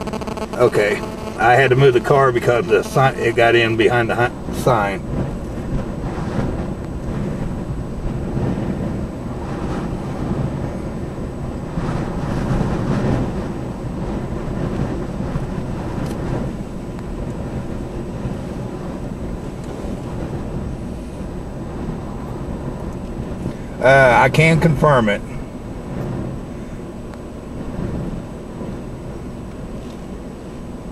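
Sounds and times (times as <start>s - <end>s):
wind buffeting microphone: 1.0s - 24.4s, 25.2s - 30.9s.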